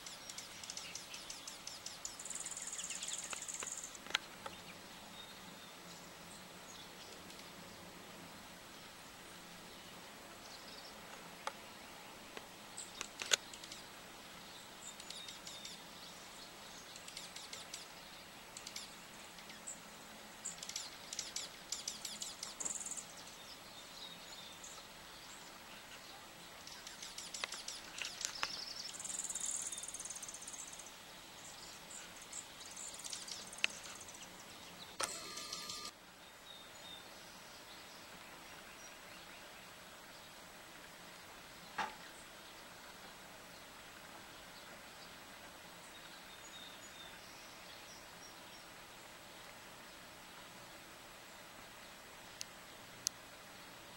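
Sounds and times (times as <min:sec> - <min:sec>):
songbirds chirping and trilling: 0:00.0 - 0:53.9
steady outdoor hiss: 0:00.0 - 0:53.9.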